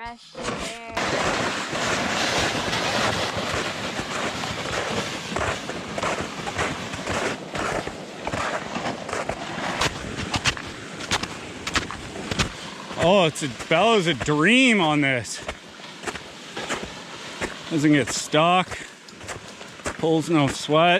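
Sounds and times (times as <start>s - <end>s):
sleds scraping over mud and snow: 0.0s - 20.9s.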